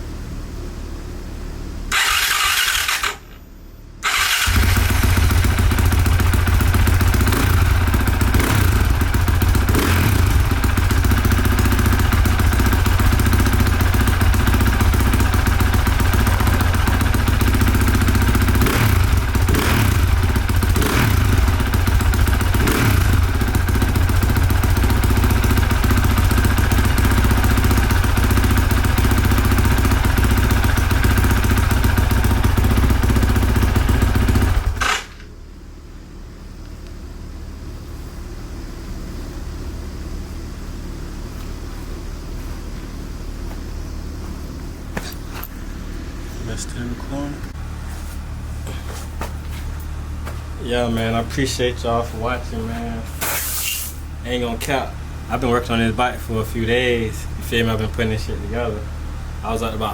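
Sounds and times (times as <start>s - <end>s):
motorcycle engine running: 1.9s - 3.4s, 4.0s - 53.2s.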